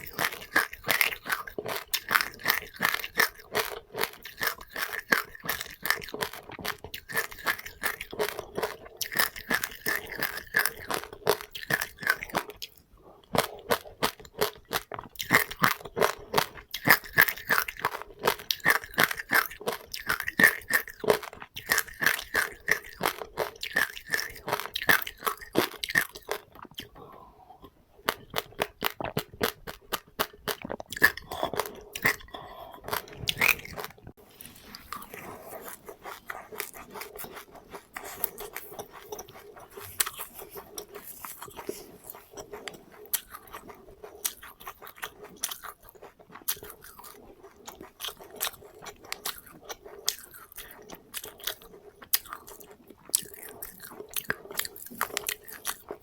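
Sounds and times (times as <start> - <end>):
chewing crunchy seeds: 0.0 - 56.0.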